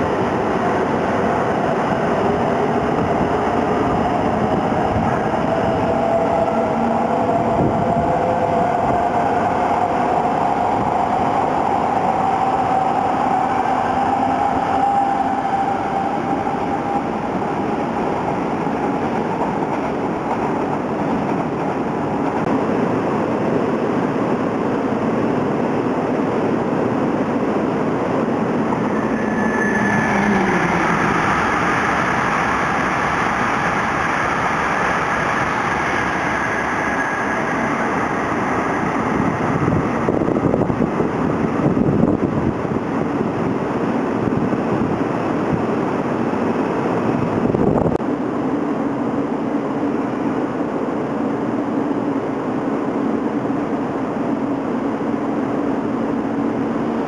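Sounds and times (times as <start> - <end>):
train rumble with falling whine: 0.0 - 57.0
train running beside platform: 0.0 - 57.0.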